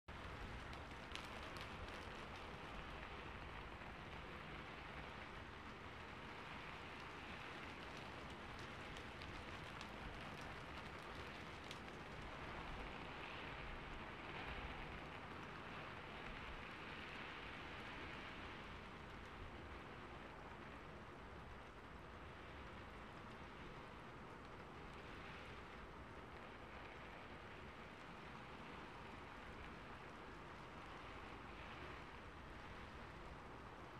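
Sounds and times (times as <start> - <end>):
steady hiss with faint ticks: 0.1 - 33.9.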